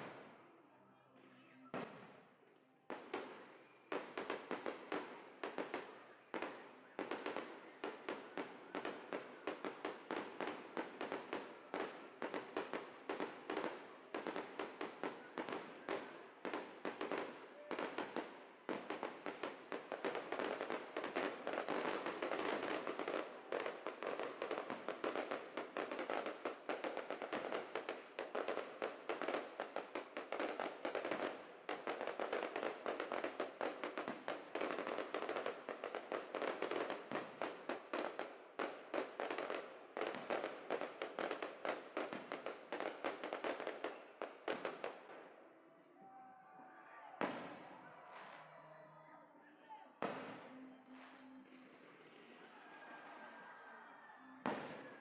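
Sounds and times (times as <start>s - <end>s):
fireworks sharp bangs: 1.7s - 2.2s, 2.9s - 45.3s, 47.2s - 48.6s, 50.0s - 53.2s, 54.4s - 55.0s.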